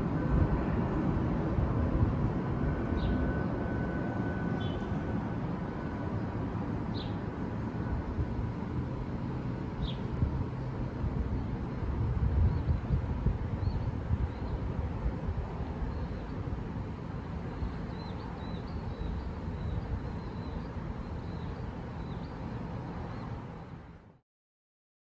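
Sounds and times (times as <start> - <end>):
wind rumbling on microphone: 0.0 - 23.9.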